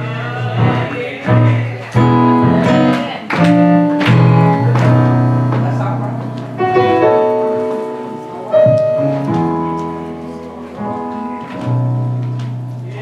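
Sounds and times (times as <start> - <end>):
keyboard playing slow chords: 0.0 - 13.0.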